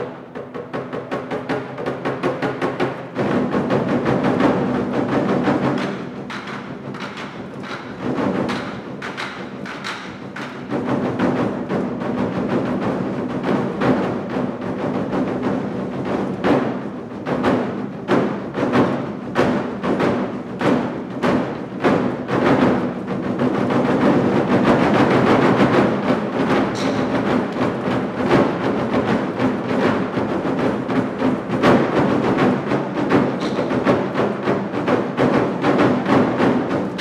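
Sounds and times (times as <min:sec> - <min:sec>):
large drums beaten with sticks: 0:00.0 - 0:37.0.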